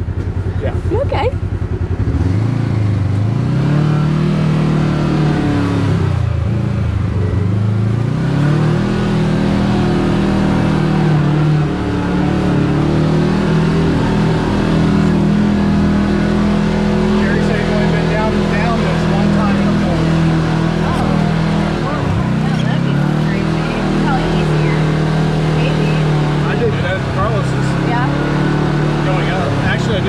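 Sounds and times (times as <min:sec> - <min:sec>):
utility vehicle engine revving: 0:00.0 - 0:30.0.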